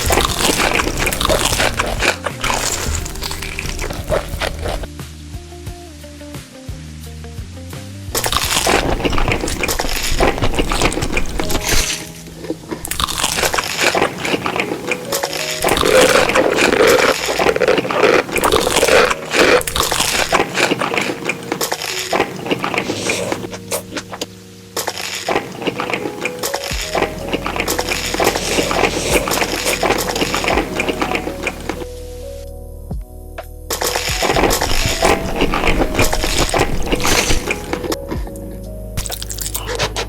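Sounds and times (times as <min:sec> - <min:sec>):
crunching and chewing food: 0:00.0 - 0:04.9, 0:08.2 - 0:31.9, 0:33.7 - 0:38.4, 0:39.0 - 0:40.0
soft background music: 0:00.0 - 0:40.0.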